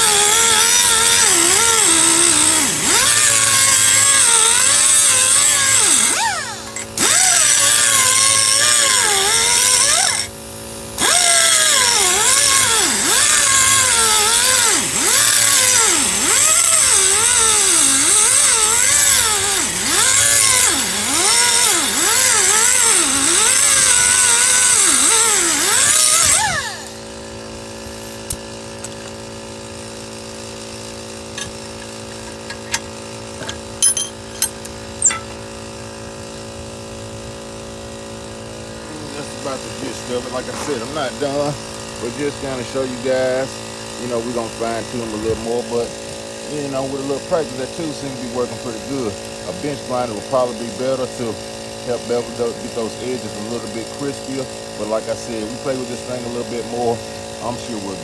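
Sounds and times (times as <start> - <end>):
power tool grinding steel: 0.0 - 36.8, 37.4 - 58.0.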